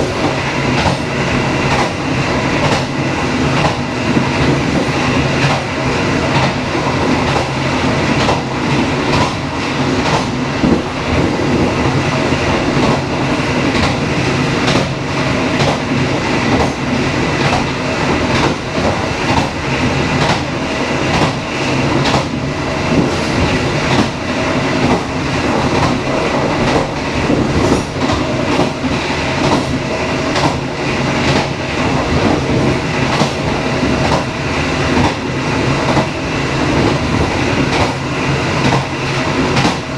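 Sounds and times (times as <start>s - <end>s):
train rumble: 0.0s - 39.9s
train wheels clicking on rails: 0.0s - 39.9s.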